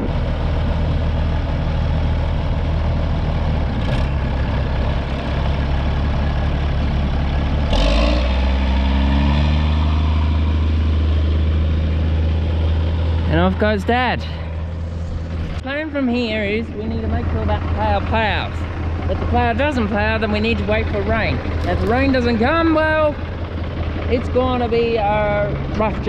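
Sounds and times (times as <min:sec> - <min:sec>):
tractor engine idling: 0:00.0 - 0:26.0
tractor engine revving: 0:00.0 - 0:26.0.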